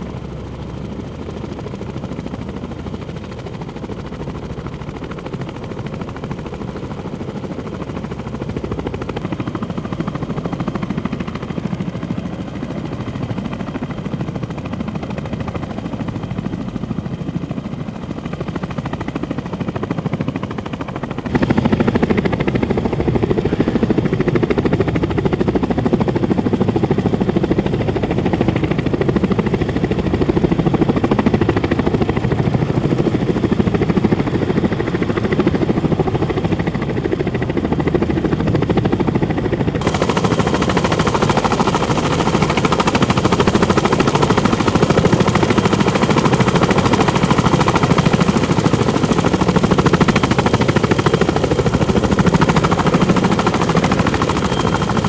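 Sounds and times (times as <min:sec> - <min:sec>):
helicopter rotors chopping: 0:00.0 - 0:55.0.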